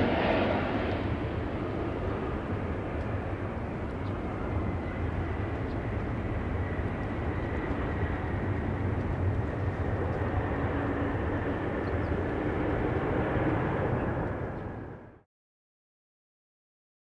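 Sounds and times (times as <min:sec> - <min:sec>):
jet engines roaring: 0:00.0 - 0:15.2.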